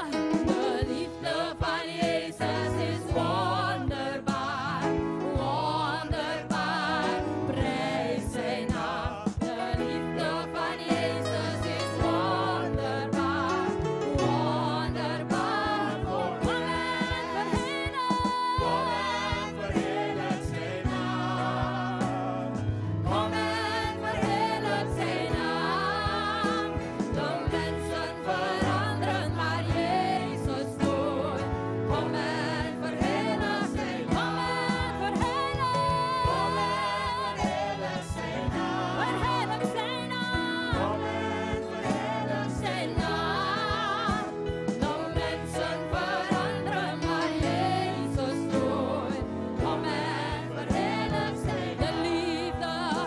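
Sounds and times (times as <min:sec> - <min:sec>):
band accompaniment: 0:00.0 - 0:53.0
singers singing together: 0:00.0 - 0:53.0.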